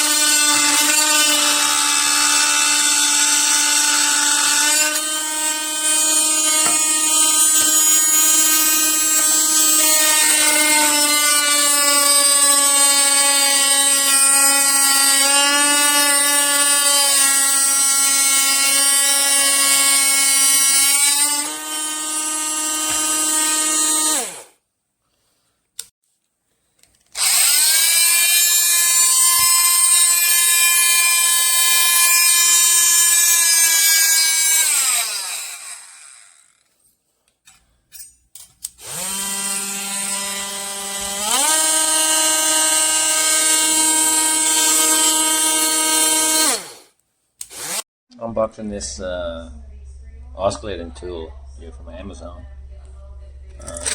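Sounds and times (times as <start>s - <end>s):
oscillating multi-tool whining: 0.0s - 24.6s, 27.2s - 36.7s, 38.7s - 47.9s.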